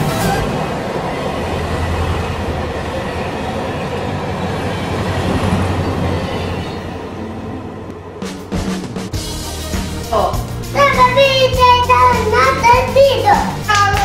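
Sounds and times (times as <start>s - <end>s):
train rumbling on track: 0.0s - 13.9s.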